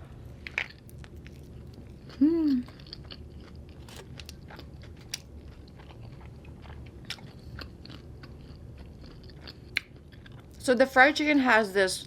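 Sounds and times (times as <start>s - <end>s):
person chewing crunchy food: 0.4s - 10.6s.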